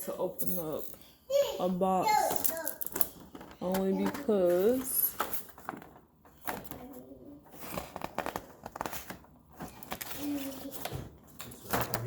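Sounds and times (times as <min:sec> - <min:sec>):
box packaging clicks and crinkling: 0:02.3 - 0:12.0.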